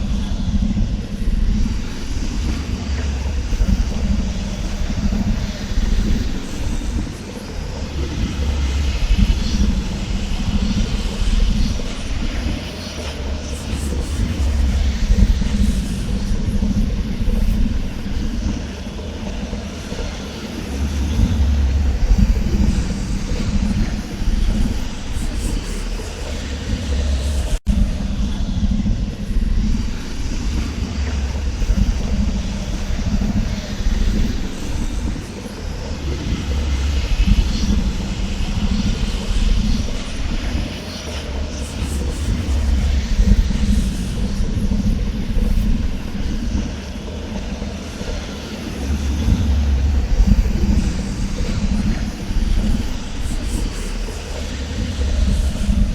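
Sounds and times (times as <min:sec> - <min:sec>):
deep steady rumble: 0:00.0 - 0:55.9.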